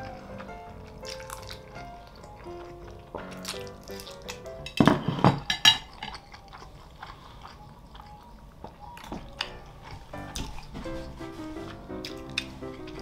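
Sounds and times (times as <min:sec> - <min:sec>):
wet mouth clicks and chewing: 0:00.0 - 0:04.6, 0:05.8 - 0:10.7, 0:12.0 - 0:13.0
soft background music: 0:00.0 - 0:13.0.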